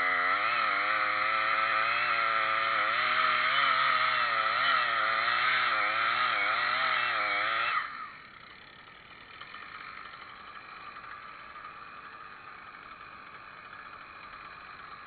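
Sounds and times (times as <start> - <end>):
chainsaw revving and idling: 0.0 - 15.0.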